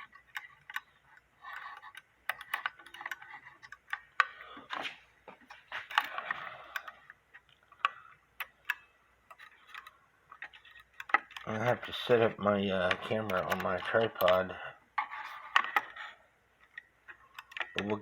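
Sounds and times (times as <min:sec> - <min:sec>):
wooden parts clicking and knocking: 0:00.0 - 0:18.0.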